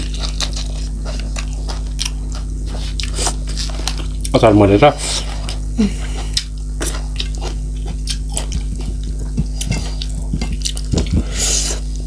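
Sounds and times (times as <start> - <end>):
chewing and mouth smacking: 0.0 - 4.4, 5.4 - 11.9
low electrical hum: 0.0 - 12.0.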